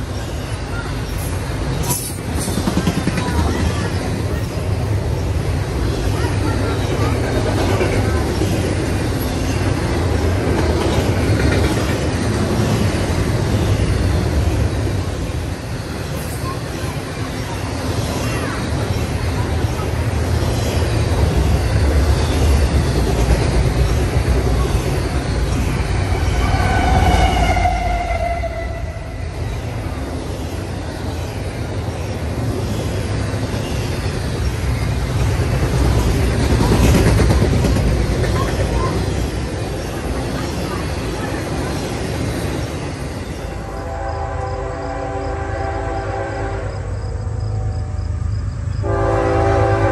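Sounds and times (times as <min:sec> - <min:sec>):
train wheels on rails: 0:00.0 - 0:49.9.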